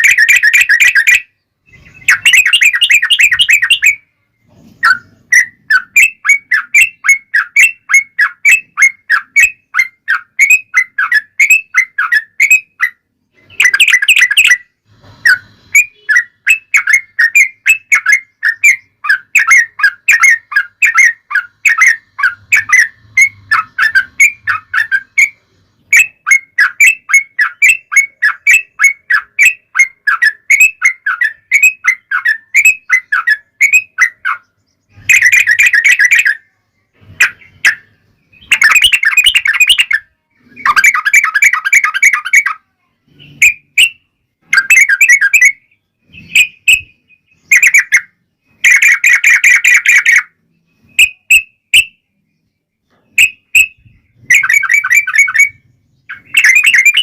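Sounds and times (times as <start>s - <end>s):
bird chattering: 0.0s - 51.9s, 53.1s - 57.0s.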